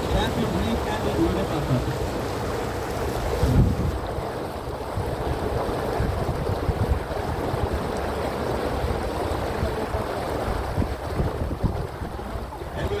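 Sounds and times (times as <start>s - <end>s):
boat moving through water: 0.0s - 13.0s
wind buffeting microphone: 0.0s - 13.0s.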